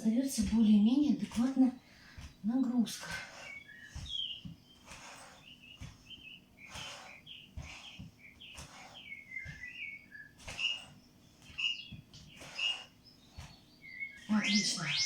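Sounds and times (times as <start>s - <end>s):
small birds chirping: 0.0s - 15.0s
soft thuds of stepping: 0.4s - 14.2s.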